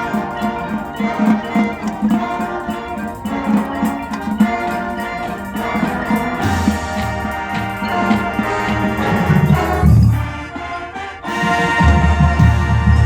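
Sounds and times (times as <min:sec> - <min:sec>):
low rhythmic pulse: 0:00.0 - 0:13.0
marching band playing: 0:00.0 - 0:13.0.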